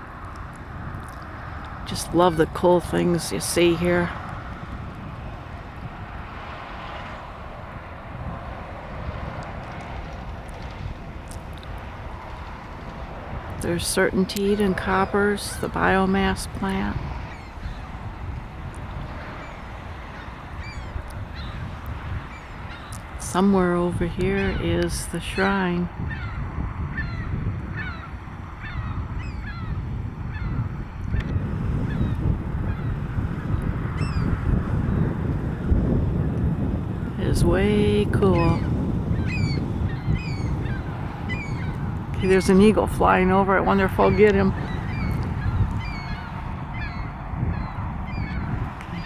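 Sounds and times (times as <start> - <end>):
wind rumble on microphone: 0.0 - 49.0
seagulls calling: 9.4 - 49.0.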